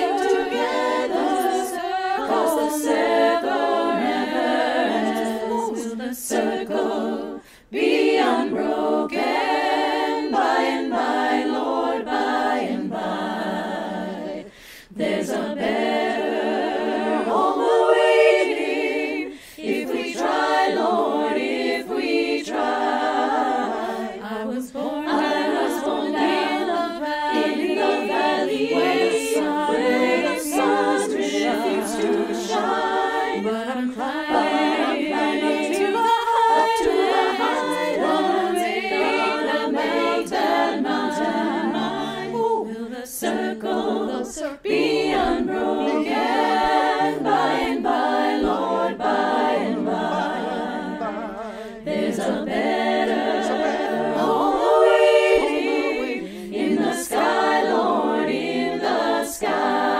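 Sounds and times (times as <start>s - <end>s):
a cappella choir singing: 0.0s - 59.9s.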